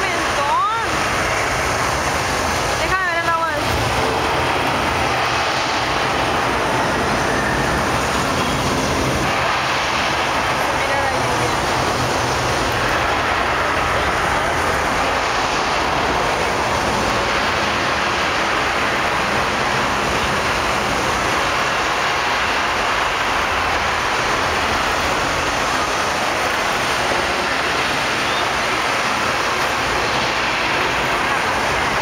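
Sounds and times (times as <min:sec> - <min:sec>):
artificial rain hissing: 0:00.0 - 0:32.0.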